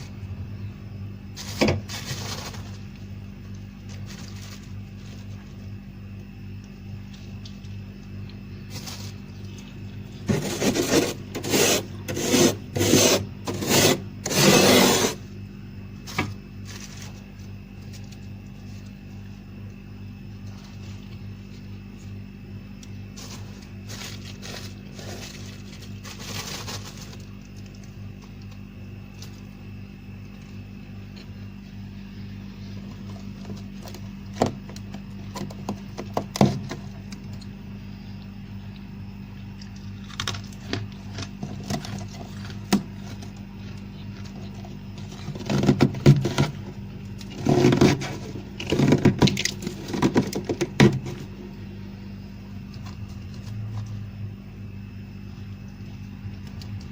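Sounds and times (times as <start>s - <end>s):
steady low hum: 0.0s - 56.9s
frost scraping and crunching: 1.3s - 37.6s, 39.4s - 54.4s.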